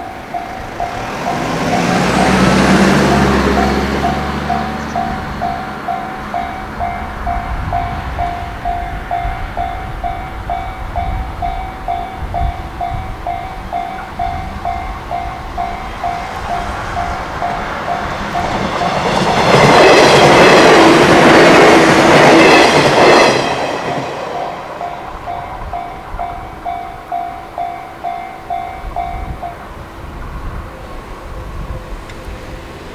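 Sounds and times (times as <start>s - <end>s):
level-crossing alarm bell ringing: 0.0s - 29.6s
electric train passing: 0.0s - 32.9s.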